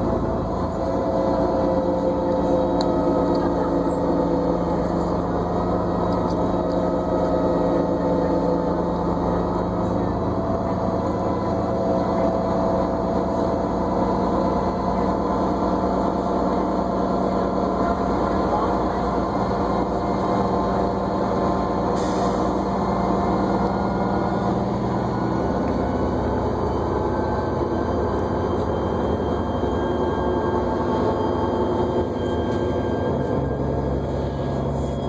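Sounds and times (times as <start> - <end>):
bus engine drone with whine: 0.0 - 35.0.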